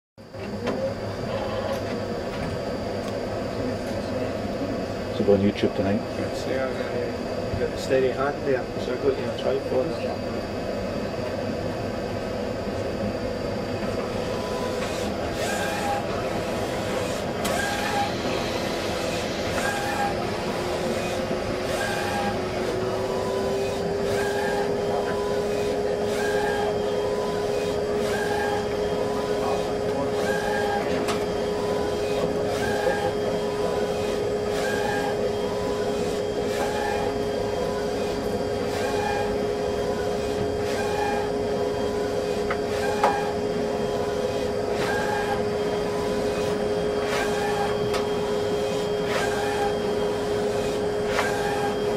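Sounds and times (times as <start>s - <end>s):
plotter whirring: 0.2s - 51.9s
soft repeating mechanical sounds: 0.2s - 51.9s.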